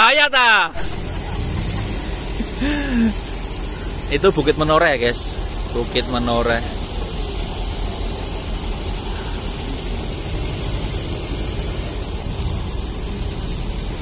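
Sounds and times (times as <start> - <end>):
road noise: 0.0 - 14.0
car engine running: 0.7 - 14.0.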